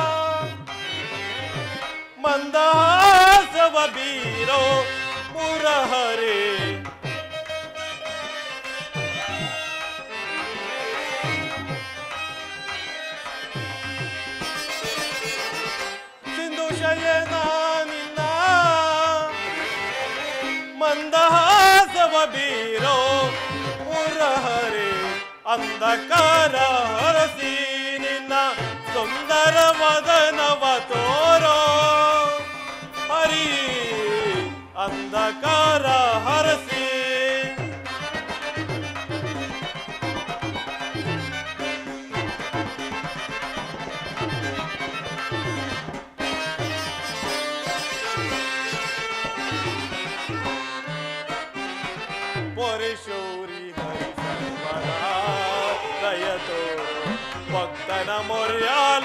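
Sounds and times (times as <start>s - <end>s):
tabla drumming: 0.0s - 59.0s.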